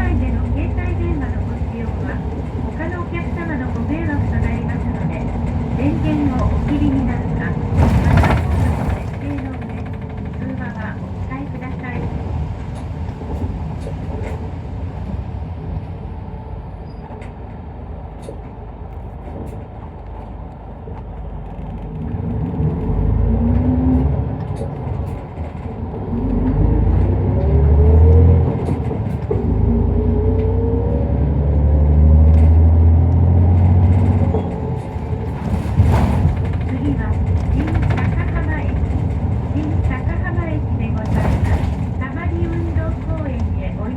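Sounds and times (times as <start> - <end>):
bus engine rumble: 0.0 - 43.9.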